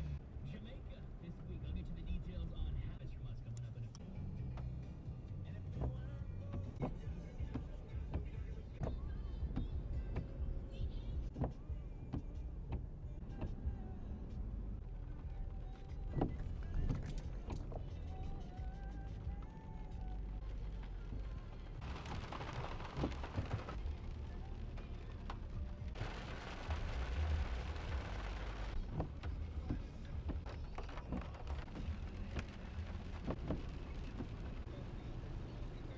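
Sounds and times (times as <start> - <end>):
moving vehicle rumble: 0.0 - 35.9.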